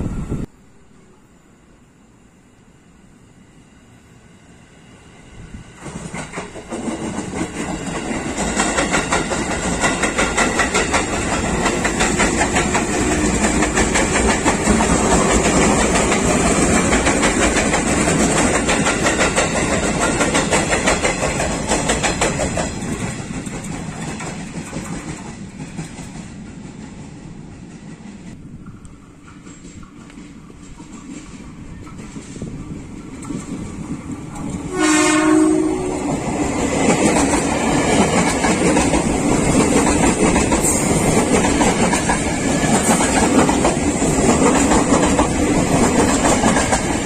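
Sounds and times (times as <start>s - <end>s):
electric train passing: 0.0s - 47.0s.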